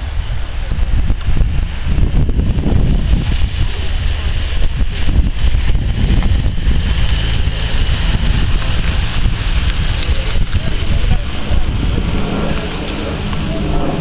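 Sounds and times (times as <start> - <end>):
car engine running: 0.0 - 14.0
wind noise on microphone: 0.0 - 14.0.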